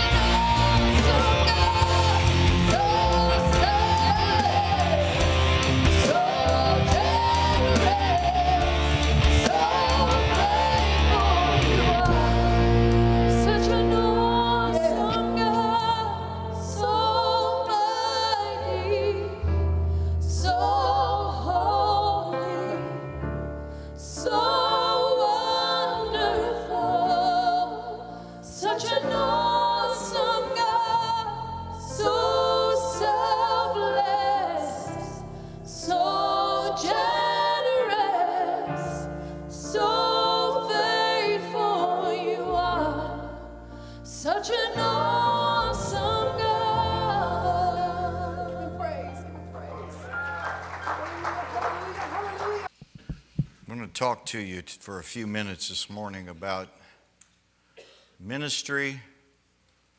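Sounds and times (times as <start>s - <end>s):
person singing gospel song: 0.0s - 19.4s, 20.2s - 23.2s, 24.0s - 51.2s.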